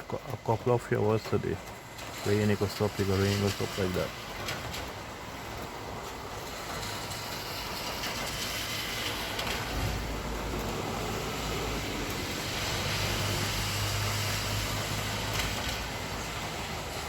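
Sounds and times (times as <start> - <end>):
tyres hissing on wet road: 0.0 - 17.0.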